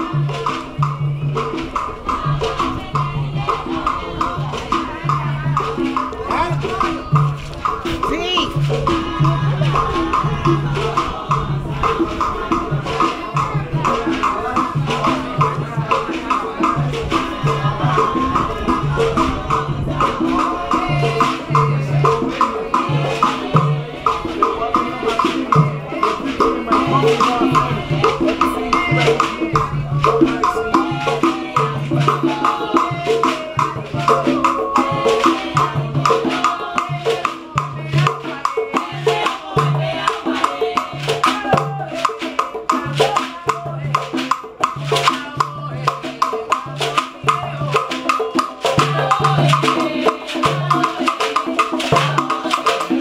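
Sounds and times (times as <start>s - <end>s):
hand drums beating: 0.0s - 53.0s
shakers: 0.0s - 53.0s.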